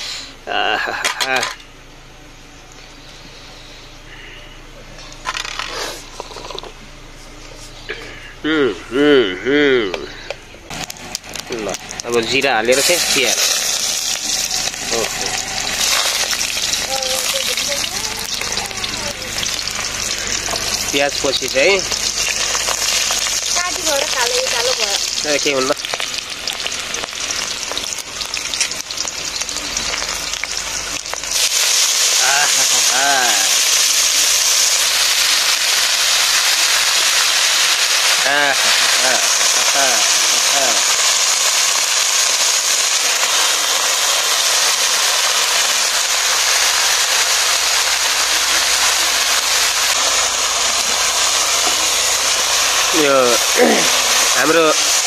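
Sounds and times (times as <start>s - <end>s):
onion crackling in hot oil: 5.0s - 6.8s, 10.6s - 55.0s
greens sizzling in oil: 10.6s - 55.0s.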